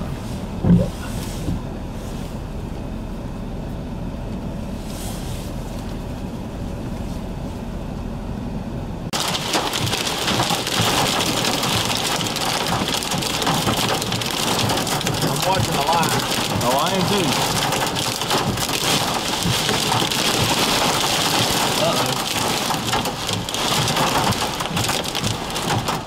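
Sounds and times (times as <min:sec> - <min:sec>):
heavy rain pelting vehicle: 0:00.0 - 0:26.0
steady low rumble: 0:00.0 - 0:26.0.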